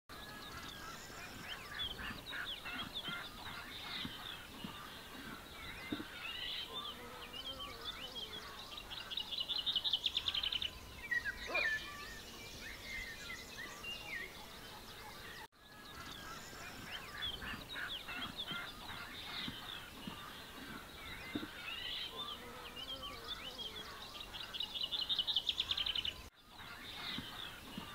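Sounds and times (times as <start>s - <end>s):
songbirds singing: 0.1s - 27.9s.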